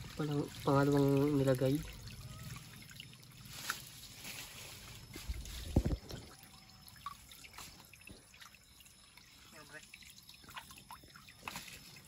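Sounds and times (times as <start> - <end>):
stream water sloshing and splashing: 0.0 - 12.0.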